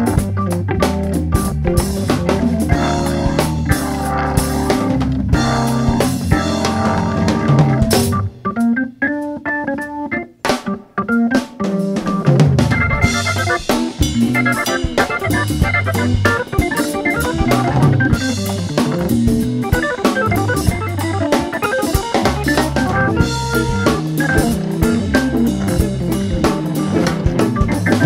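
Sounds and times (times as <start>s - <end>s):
low bass notes: 0.0s - 8.8s, 12.0s - 28.0s
drum kit keeping time: 0.0s - 28.0s
organ playing quick runs: 0.0s - 28.0s.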